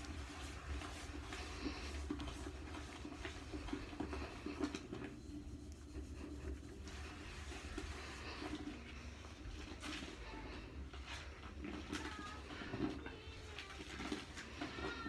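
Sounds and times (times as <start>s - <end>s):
sponge scrubbing toilet bowl: 0.0s - 15.0s.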